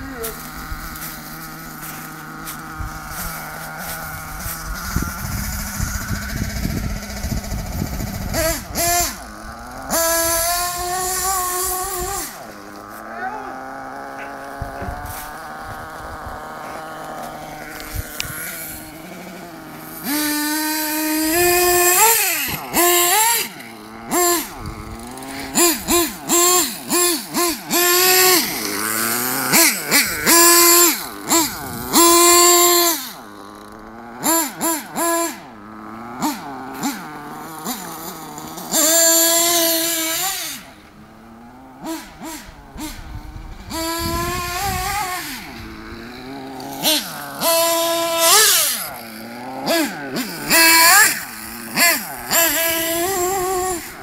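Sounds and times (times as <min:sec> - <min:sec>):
model truck engine revving: 0:00.0 - 0:54.0.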